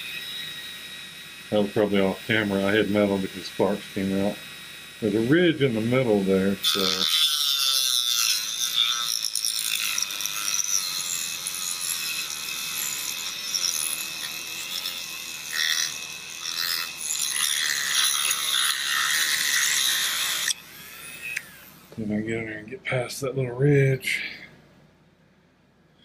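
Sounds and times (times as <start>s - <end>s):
rotary tool grinding whine: 0.0s - 22.1s.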